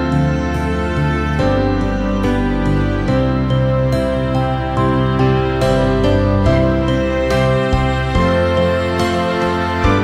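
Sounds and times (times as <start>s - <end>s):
soft slow instrumental music: 0.0s - 10.0s.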